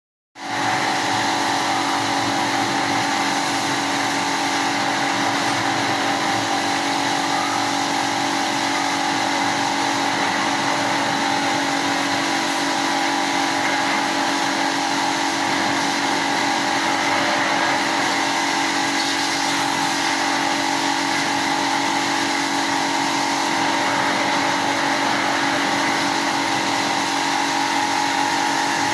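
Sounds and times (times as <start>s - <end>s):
pressure washer running: 0.4s - 28.9s
water spraying: 0.4s - 28.9s.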